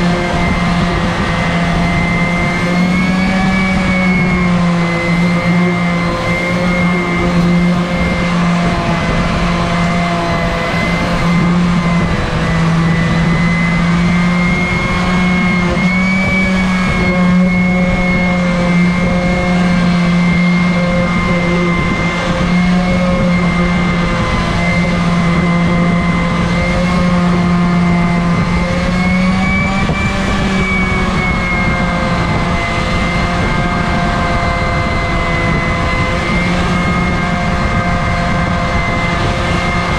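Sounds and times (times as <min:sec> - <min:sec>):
orbital sander running: 0:00.0 - 0:39.9.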